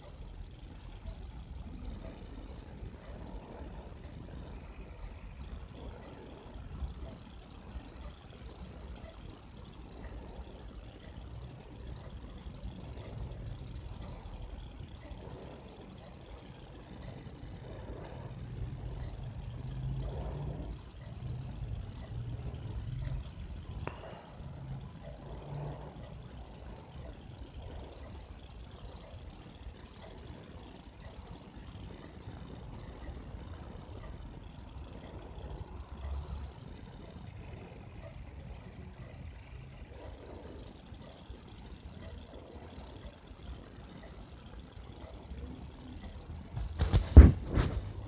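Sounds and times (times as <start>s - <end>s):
faint low engine rumble: 0.0s - 48.0s.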